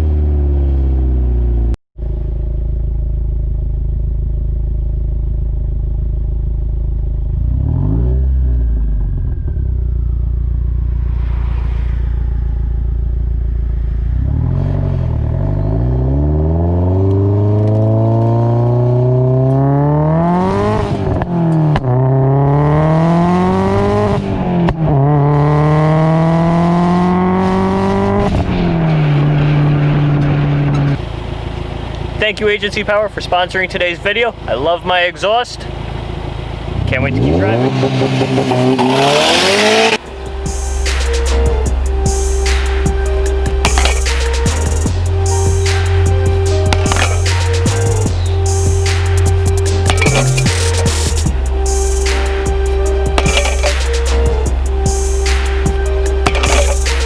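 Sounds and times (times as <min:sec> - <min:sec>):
car engine accelerating through gears: 0:07.0 - 0:32.2, 0:35.7 - 0:57.0.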